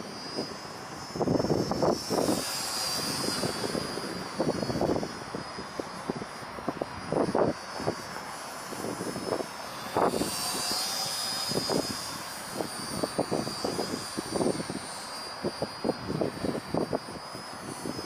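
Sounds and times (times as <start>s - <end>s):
model plane motors whining: 0.0s - 18.0s.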